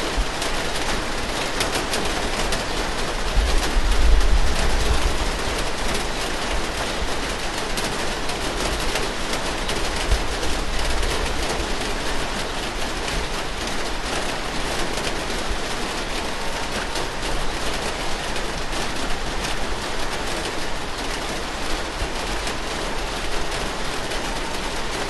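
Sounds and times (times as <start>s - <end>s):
steady rain patter: 0.0s - 25.0s.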